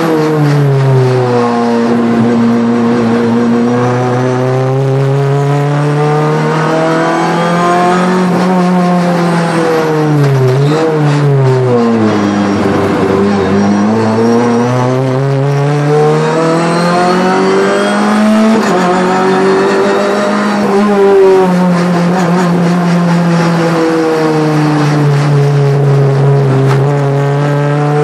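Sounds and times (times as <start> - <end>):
car engine revving at speed: 0.0 - 28.0.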